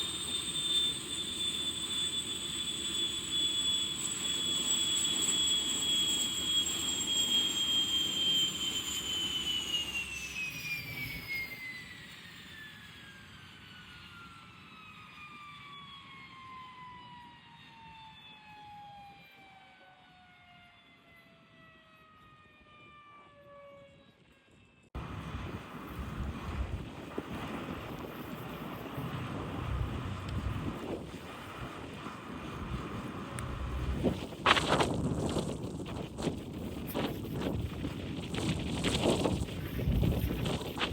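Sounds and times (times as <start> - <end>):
jet engine whine spooling down: 0.0 - 40.9.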